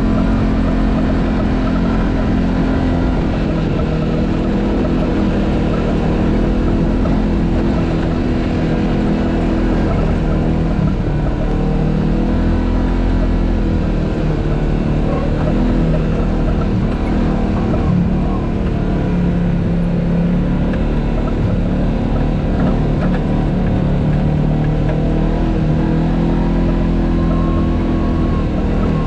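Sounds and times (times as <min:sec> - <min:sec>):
off-road vehicle engine under load: 0:00.0 - 0:29.0.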